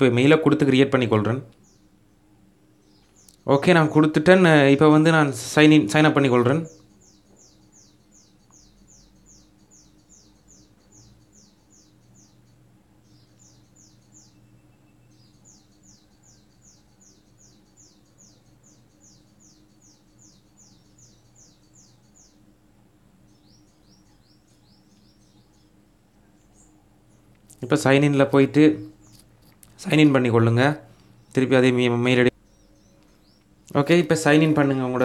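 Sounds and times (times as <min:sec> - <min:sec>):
rapid high-pitched chirping: 0:00.0 - 0:02.1, 0:02.7 - 0:35.0
faint low hum: 0:00.0 - 0:35.0.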